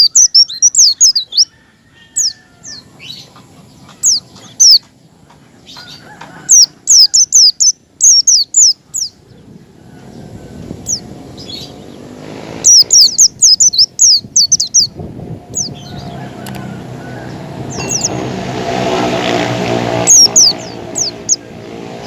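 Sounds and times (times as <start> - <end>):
birds whistling: 0.0 - 4.9, 5.5 - 18.3, 19.9 - 21.6
vehicle engine humming: 2.2 - 22.0.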